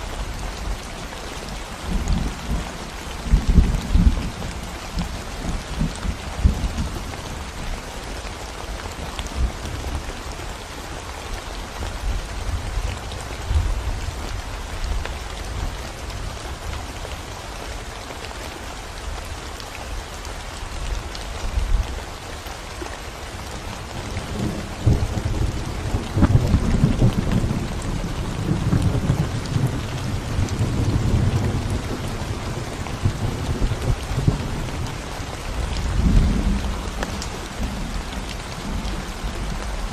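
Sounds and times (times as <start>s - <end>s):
rain on concrete road: 0.0s - 39.9s.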